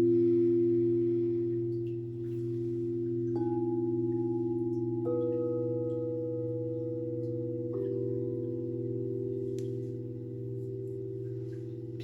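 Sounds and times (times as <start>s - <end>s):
singing bowls ringing: 0.0s - 12.0s.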